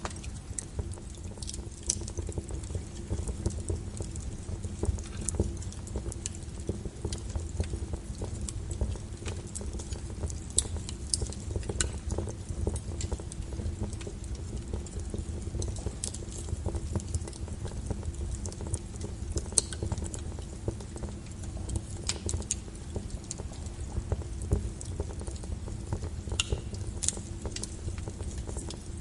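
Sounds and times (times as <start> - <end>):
low rumble of flames: 0.0 - 29.0
wood logs crackling and popping: 0.0 - 29.0.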